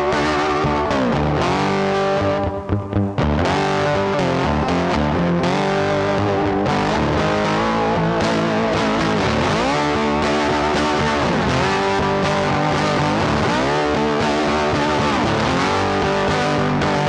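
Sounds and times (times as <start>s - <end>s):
rock music with distorted guitar: 0.0s - 17.0s.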